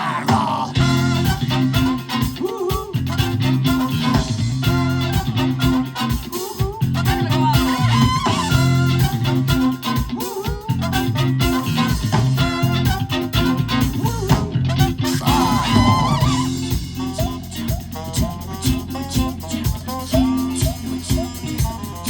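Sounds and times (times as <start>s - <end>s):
bass guitar: 0.0s - 22.0s
electric guitar: 0.0s - 22.0s
steady drum beat: 0.0s - 22.0s.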